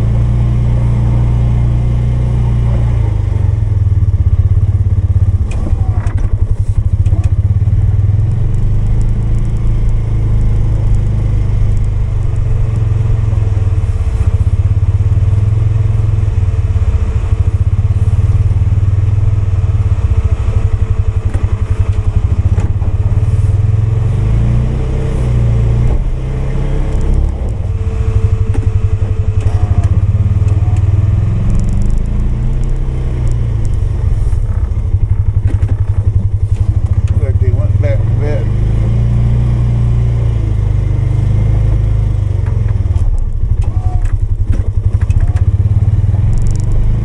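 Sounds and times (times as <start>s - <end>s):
engine pushing snowplow: 0.0s - 47.0s.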